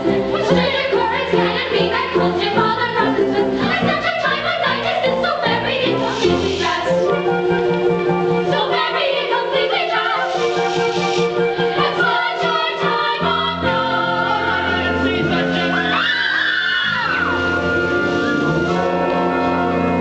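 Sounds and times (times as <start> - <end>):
instrumental accompaniment: 0.0 - 16.0, 16.8 - 20.0
chorus of voices singing: 0.0 - 20.0.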